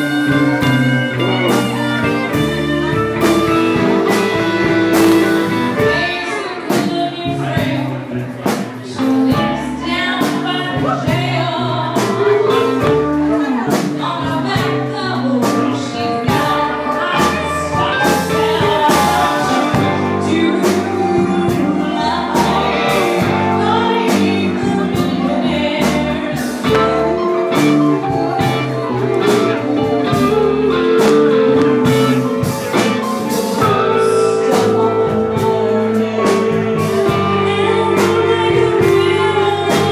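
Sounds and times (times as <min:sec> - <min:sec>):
electric guitar: 0:00.0 - 0:39.9
keyboard: 0:00.0 - 0:39.9
woman singing: 0:00.0 - 0:39.9.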